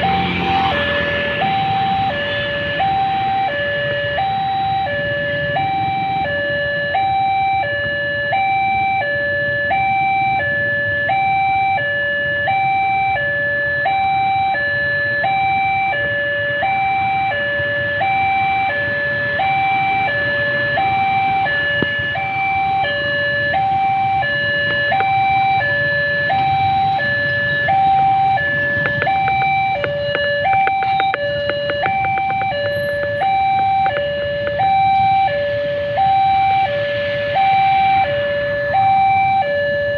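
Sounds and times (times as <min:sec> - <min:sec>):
two-tone crossing warning siren: 0:00.0 - 0:39.9.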